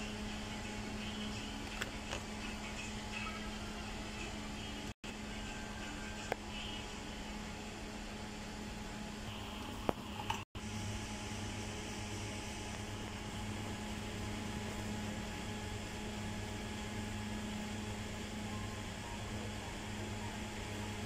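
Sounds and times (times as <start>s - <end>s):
electric hum: 0.0s - 21.0s
fan whirring: 0.0s - 21.0s.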